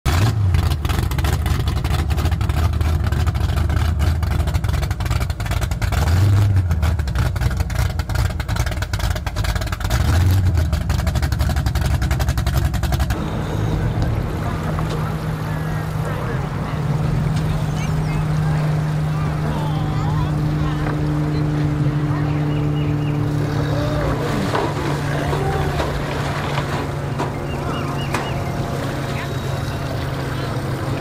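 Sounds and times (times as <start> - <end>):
speedboat engine idling: 0.4 - 6.0, 6.7 - 31.0.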